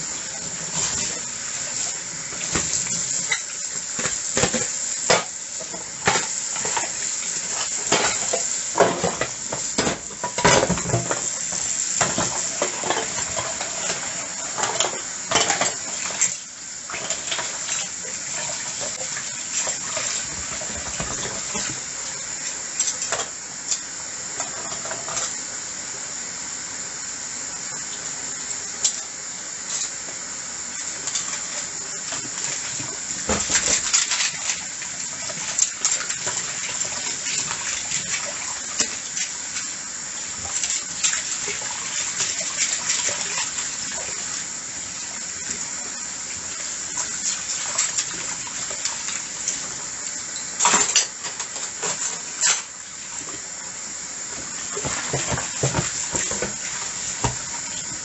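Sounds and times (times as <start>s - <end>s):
tap water running into sink: 0.1s - 25.4s, 27.7s - 58.0s.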